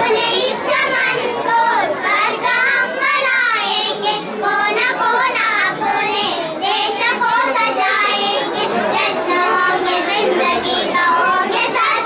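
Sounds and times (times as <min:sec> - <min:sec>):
girls singing into a microphone: 0:00.0 - 0:12.0.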